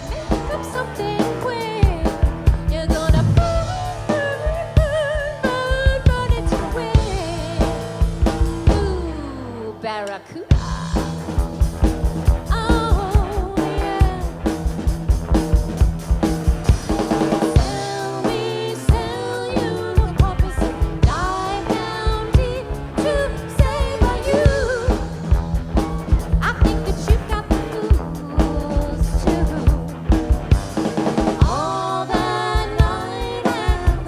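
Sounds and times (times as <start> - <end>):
busy drum kit: 0.0 - 34.0
live rock band: 0.0 - 34.0.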